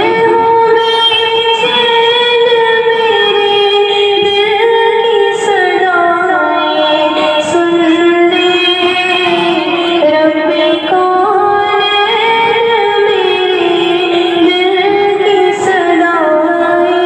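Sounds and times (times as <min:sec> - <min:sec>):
person singing a prayer: 0:00.0 - 0:17.0.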